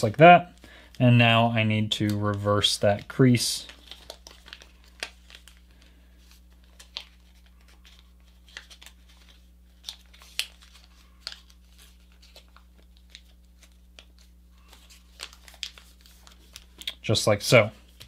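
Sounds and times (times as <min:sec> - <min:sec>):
paper crinkling: 0:02.1 - 0:18.0.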